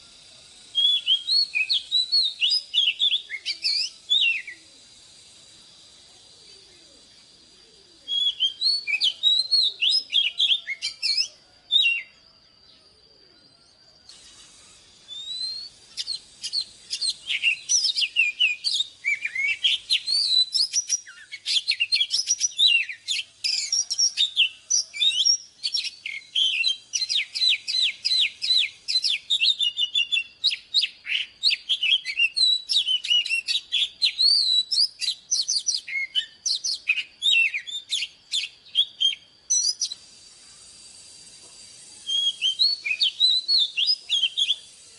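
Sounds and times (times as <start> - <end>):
bird singing whistled song: 0.0 - 44.9.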